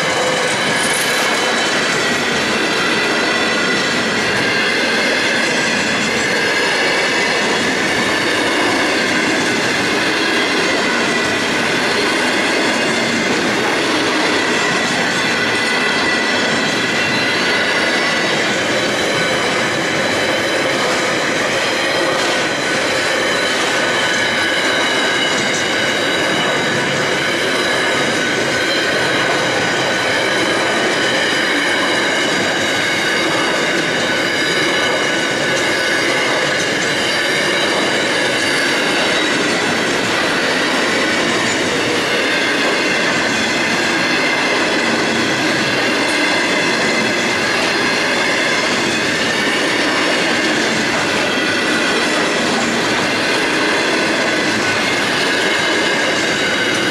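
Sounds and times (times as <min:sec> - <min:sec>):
train wagons rolling: 0:00.0 - 0:56.9.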